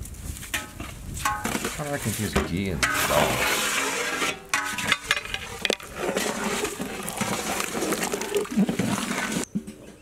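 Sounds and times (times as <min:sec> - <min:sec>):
ladle scraping metal pot: 0:00.5 - 0:09.5.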